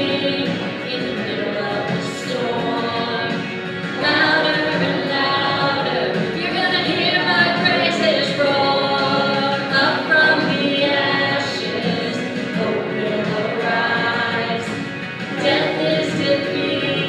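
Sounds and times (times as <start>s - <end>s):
group singing a hymn: 0.0s - 17.0s.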